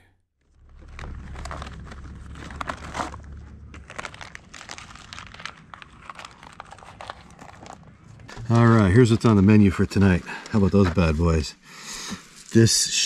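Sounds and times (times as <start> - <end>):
low steady hum: 0.0 - 13.0
crinkling and rustling: 0.4 - 13.0.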